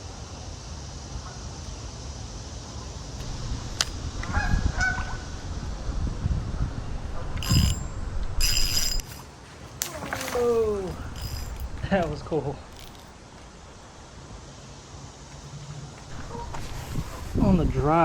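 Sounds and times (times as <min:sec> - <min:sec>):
low rumble of wind: 0:00.0 - 0:18.0.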